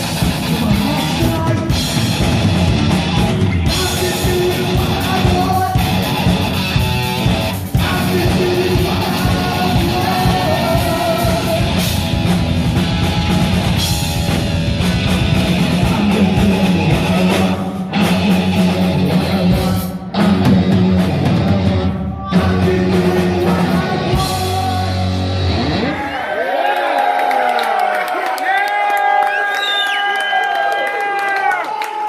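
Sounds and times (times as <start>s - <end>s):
drum kit: 0.0s - 25.8s
distorted electric guitar: 0.0s - 26.2s
bass guitar: 0.0s - 26.3s.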